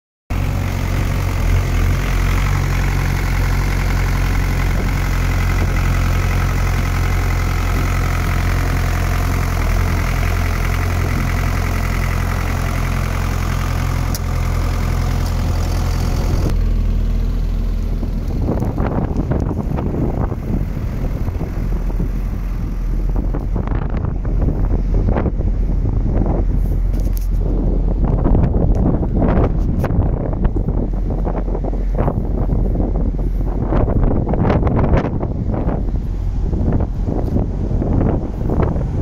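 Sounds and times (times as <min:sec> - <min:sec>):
diesel engine running: 0:00.3 - 0:39.0.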